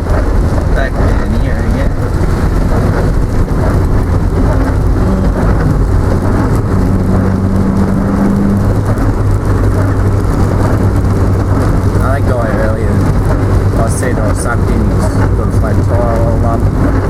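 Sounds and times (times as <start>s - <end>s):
heavy rain: 0.0s - 17.0s
vehicle engine hum: 0.0s - 17.0s.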